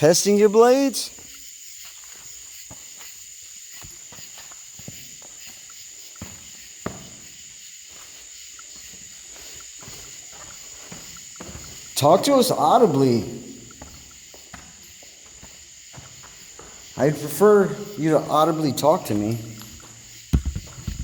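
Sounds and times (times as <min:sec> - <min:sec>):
insect chorus buzzing: 0:00.0 - 0:21.0.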